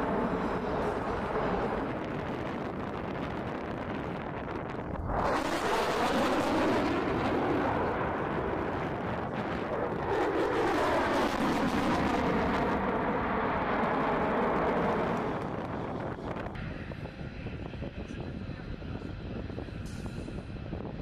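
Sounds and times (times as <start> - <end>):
jet flying overhead: 0.0 - 21.0.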